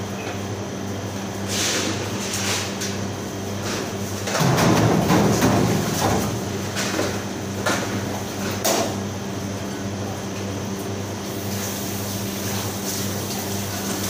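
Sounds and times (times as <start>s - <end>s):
kitchen machine hum: 0.0s - 14.0s.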